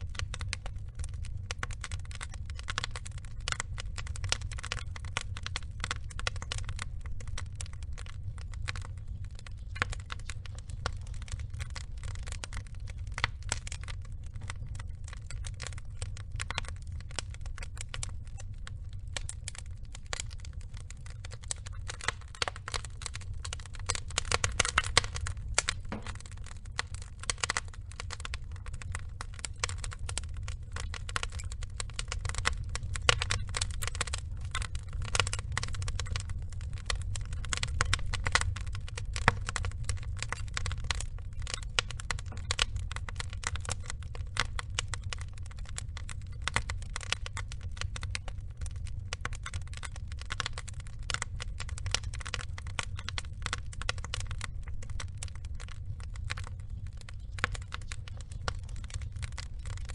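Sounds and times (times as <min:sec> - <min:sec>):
low fire rumble: 0:00.0 - 0:59.9
wood fire crackling and popping: 0:00.0 - 0:59.9.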